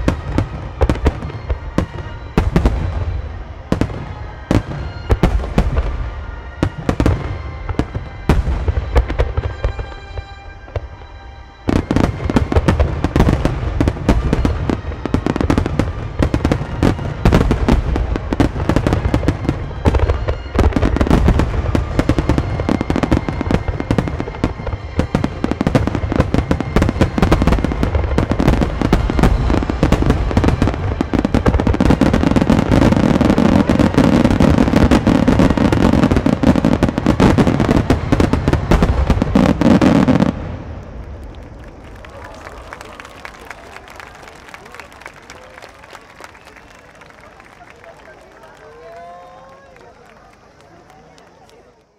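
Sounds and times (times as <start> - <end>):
fireworks bangs: 0.0 - 51.8.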